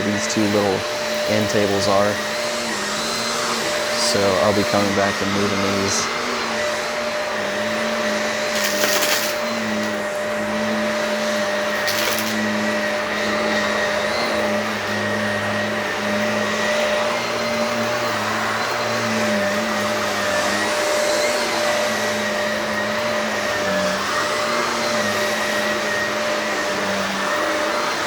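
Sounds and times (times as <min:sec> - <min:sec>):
vacuum cleaner on carpet: 0:00.0 - 0:28.0.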